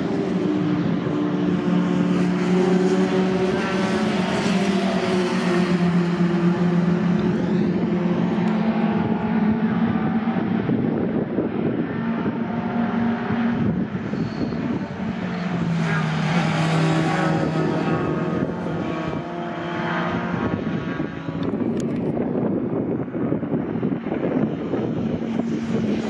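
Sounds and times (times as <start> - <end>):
racing truck engines passing: 0.0 - 22.4.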